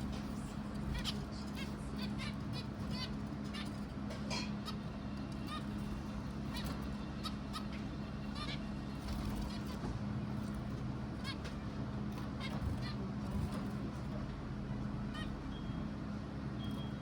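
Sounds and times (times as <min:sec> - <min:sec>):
birds calling: 0:00.0 - 0:17.0
steady low hum: 0:00.0 - 0:17.0.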